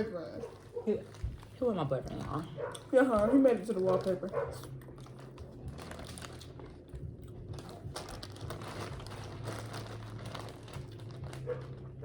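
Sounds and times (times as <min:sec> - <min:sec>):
low steady hum: 0:00.0 - 0:12.0
plastic crinkling: 0:00.0 - 0:12.0.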